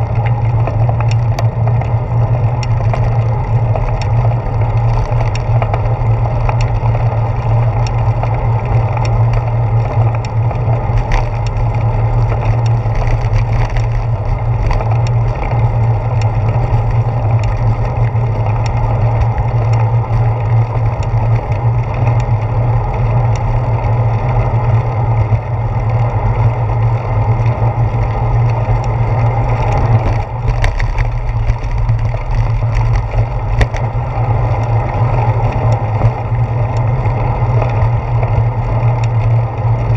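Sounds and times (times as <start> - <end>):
bicycle rolling on pavement: 0.0 - 39.9
camera rattling on bicycle: 0.0 - 39.9.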